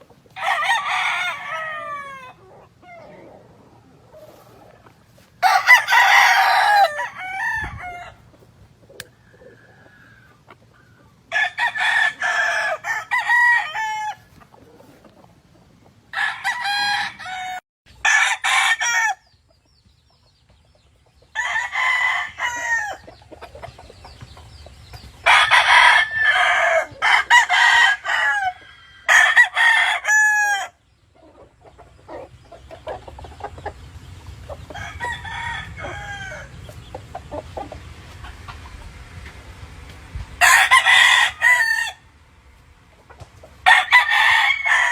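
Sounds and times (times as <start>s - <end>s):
roosters crowing: 0.0s - 15.1s, 16.0s - 19.5s, 21.2s - 24.3s, 24.9s - 44.9s.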